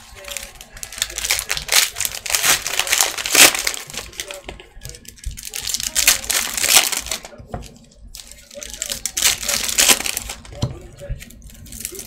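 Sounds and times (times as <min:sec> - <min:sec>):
foil wrappers crinkling and tearing: 0:00.0 - 0:12.0.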